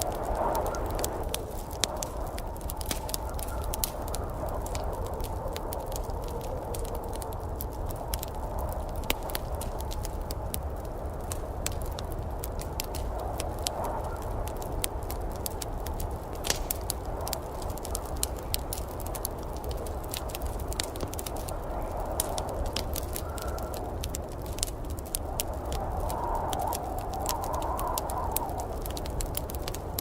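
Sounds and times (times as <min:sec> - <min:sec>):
sharp pops of fire: 0:00.0 - 0:30.0
wood fire crackling: 0:00.0 - 0:30.0.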